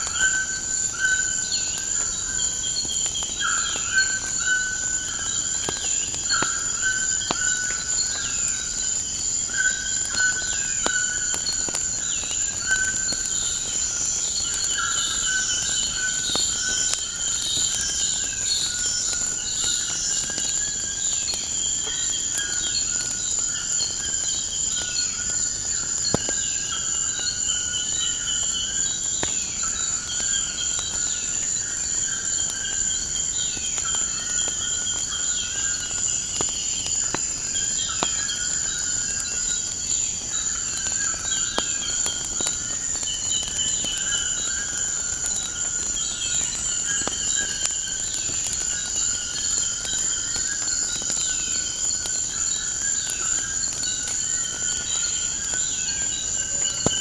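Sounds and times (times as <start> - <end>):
insect chirring: 0.0 - 57.0.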